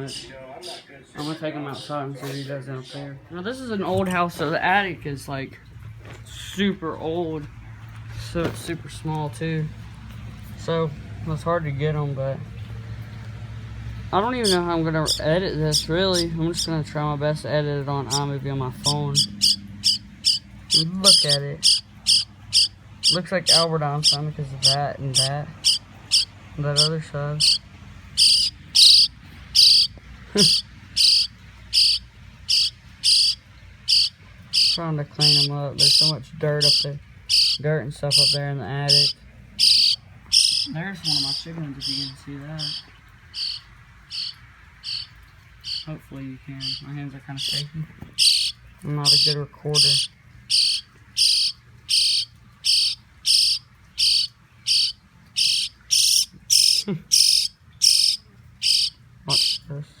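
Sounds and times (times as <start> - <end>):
nestling birds chirping: 0.0 - 60.0.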